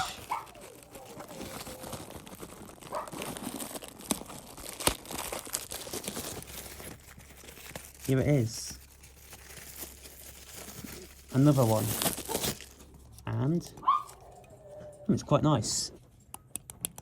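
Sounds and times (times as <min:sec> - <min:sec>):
packaging crinkling and tearing: 0:00.0 - 0:15.0.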